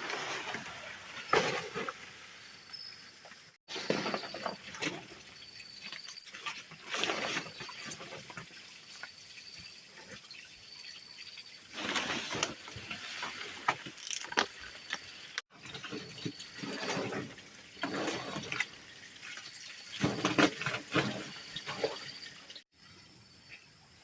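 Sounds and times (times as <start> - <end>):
water splashing and running: 0.0 - 22.7.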